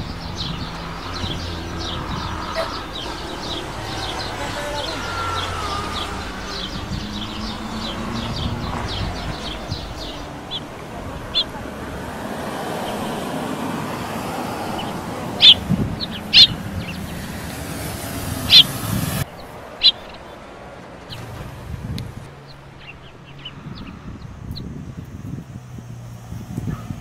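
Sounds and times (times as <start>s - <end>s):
birds chirping: 0.0s - 27.0s
car passing: 0.0s - 27.0s.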